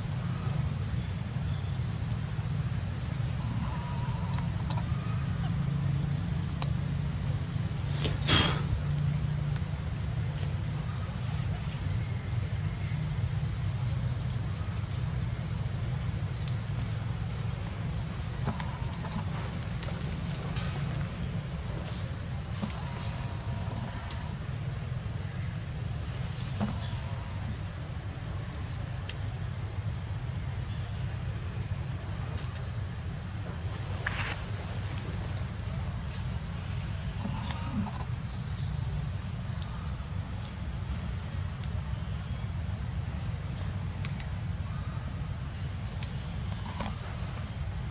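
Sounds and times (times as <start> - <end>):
insects buzzing: 0.0 - 47.9.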